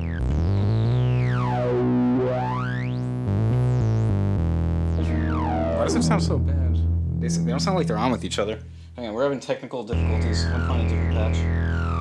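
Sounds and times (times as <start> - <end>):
synthesizer low sustained note: 0.3 - 9.0, 10.0 - 12.0.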